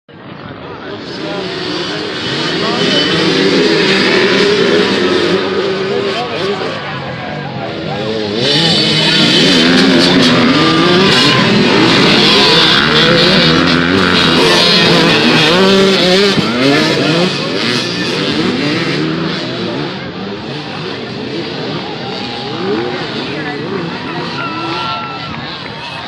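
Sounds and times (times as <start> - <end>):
off-road racing engines revving: 0.1 - 26.0.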